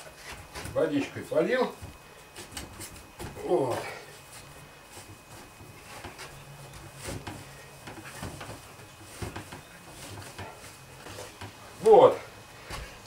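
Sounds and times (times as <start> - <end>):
clay being kneaded by hand: 0.0 - 13.0.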